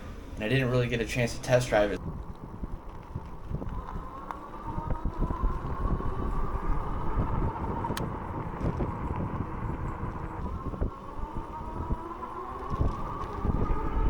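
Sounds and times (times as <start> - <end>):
wind rumbling on microphone: 0.0 - 14.0
electric bike motor whining: 2.0 - 14.0.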